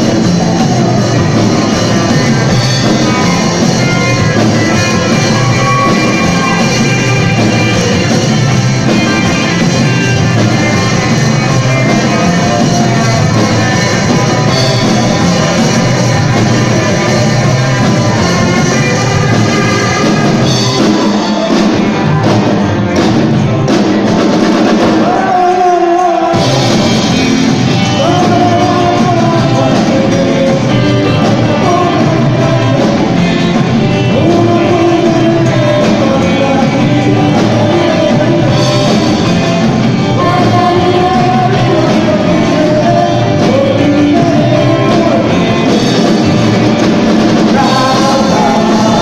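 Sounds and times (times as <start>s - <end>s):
lead vocal singing: 0.0s - 22.4s, 24.7s - 49.0s
live rock and roll band: 0.0s - 49.0s.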